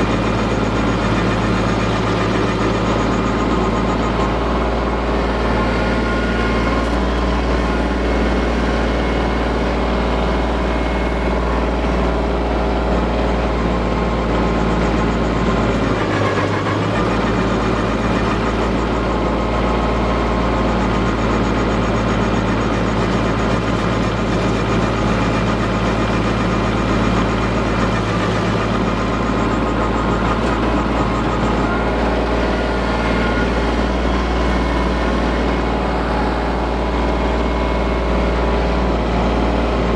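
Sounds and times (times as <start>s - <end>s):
stump grinder grinding: 0.0s - 39.9s
tractor engine running: 0.0s - 39.9s.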